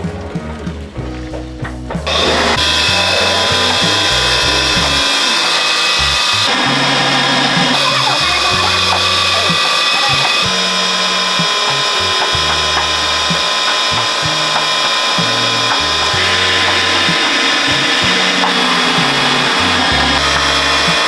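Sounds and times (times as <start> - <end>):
background music with bass line: 0.0 - 21.0
mechanical whir: 2.1 - 21.0.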